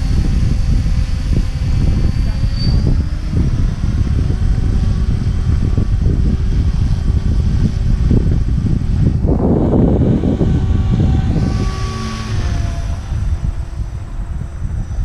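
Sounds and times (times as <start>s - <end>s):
electric rc helicopter whine: 0.0s - 15.0s
wind buffeting microphone: 0.0s - 15.0s.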